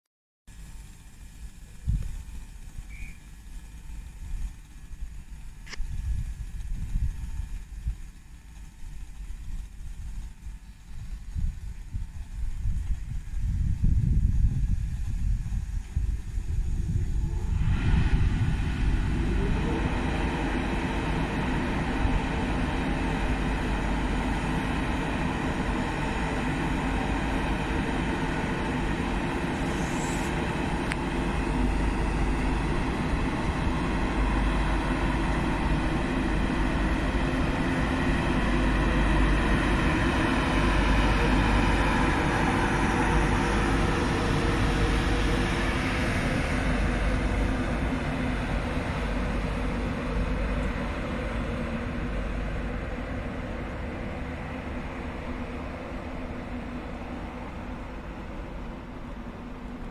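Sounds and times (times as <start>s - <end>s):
electric locomotive fan whine: 0.5s - 59.9s.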